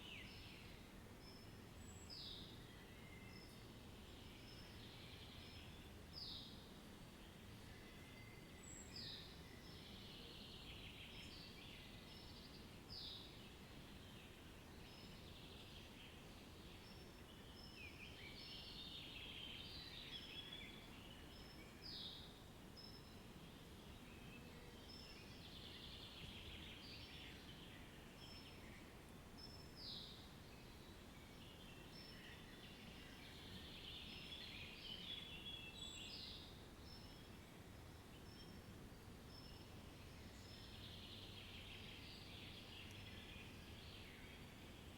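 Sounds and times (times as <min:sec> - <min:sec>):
faint low background hiss: 0:00.0 - 0:44.9.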